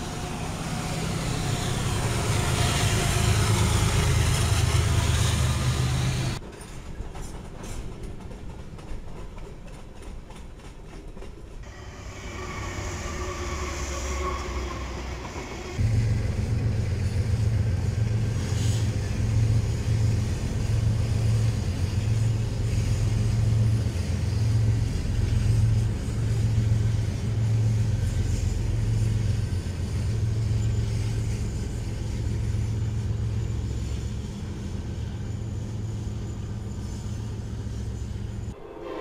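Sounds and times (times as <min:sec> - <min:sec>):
locomotive engines droning: 0:00.0 - 0:07.9, 0:11.6 - 0:39.0.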